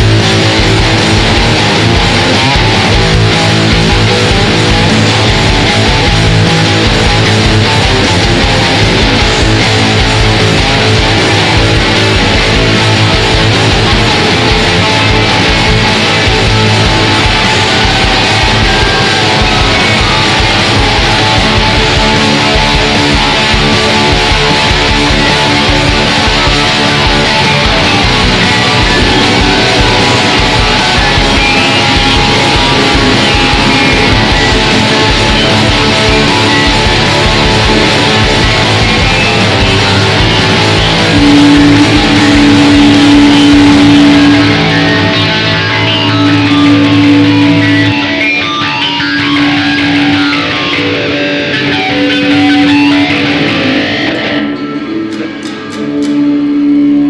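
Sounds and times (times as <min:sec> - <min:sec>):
steady drum beat: 0:00.0 - 0:48.1
electric guitar rock music: 0:00.0 - 0:57.0.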